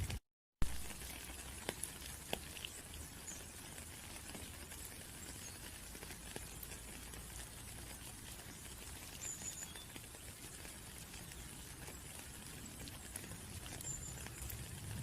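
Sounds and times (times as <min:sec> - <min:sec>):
rain hissing: 0:00.0 - 0:15.0
raindrops ticking sharply: 0:00.0 - 0:15.0.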